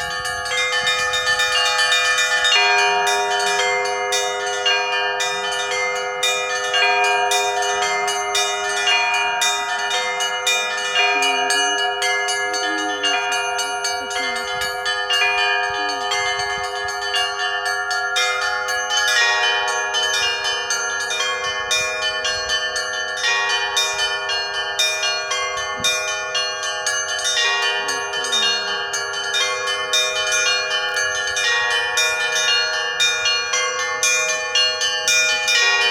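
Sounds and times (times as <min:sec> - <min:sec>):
church bells ringing: 0:00.0 - 0:35.9.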